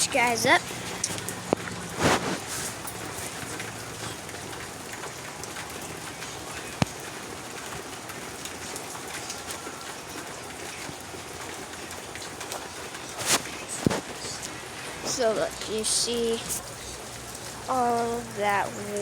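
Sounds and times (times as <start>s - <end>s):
rain pattering on surfaces: 0.0s - 19.0s.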